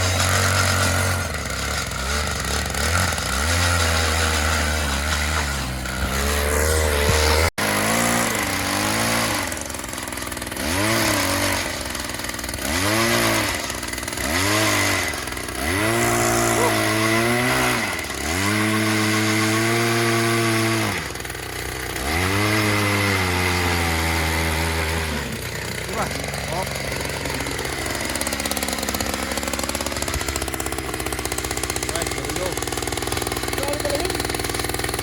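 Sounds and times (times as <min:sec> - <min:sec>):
ice auger engine revving: 0:00.0 - 0:35.0.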